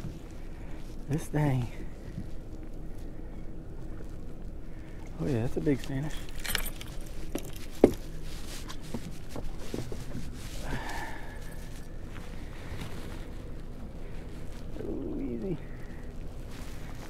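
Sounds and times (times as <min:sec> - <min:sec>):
footsteps on boat: 0:00.0 - 0:14.9, 0:15.7 - 0:17.0.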